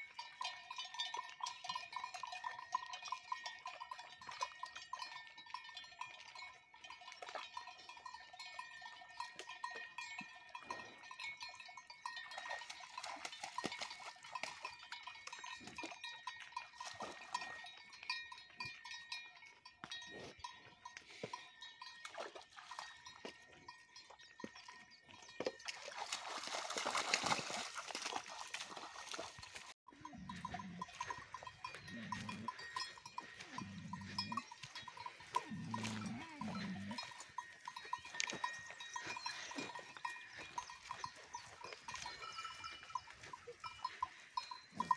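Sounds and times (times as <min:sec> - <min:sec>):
cowbells clinking: 0:00.0 - 0:44.9.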